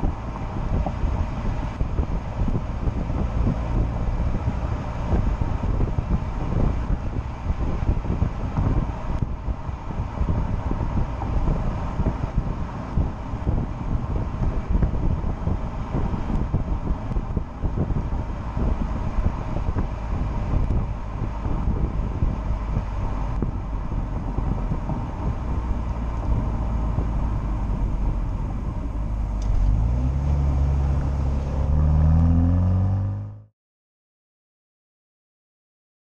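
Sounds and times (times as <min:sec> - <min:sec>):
car exhaust rumble: 0:00.0 - 0:33.5
road noise: 0:00.0 - 0:33.5.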